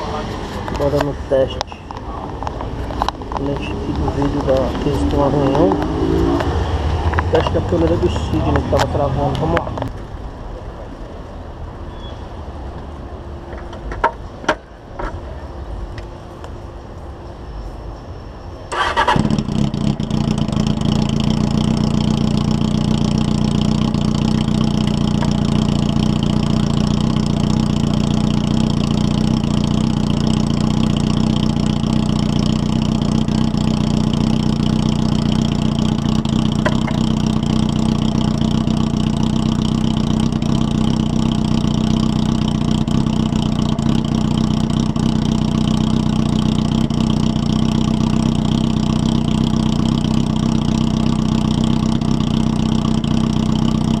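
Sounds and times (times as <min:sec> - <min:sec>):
motorcycle engine starting and idling: 0:00.0 - 0:10.1, 0:18.7 - 0:54.0.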